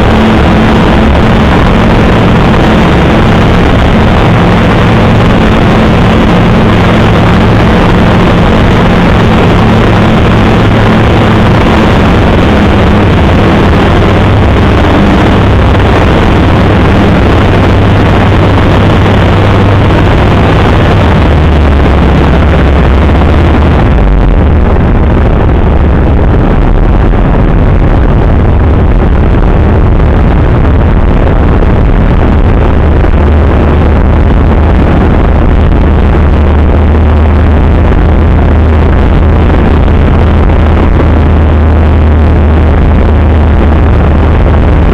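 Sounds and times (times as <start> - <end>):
light aircraft engine at low power: 0.0 - 44.9
loud rush of air: 0.0 - 44.9.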